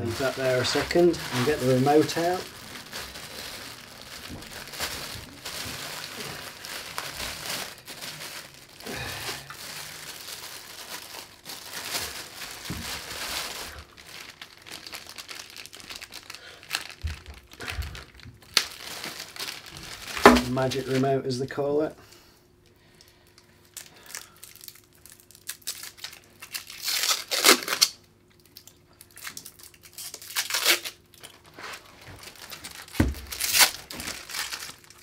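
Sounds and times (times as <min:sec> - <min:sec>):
plastic packaging crinkling: 0:00.0 - 0:21.3, 0:22.8 - 0:35.0.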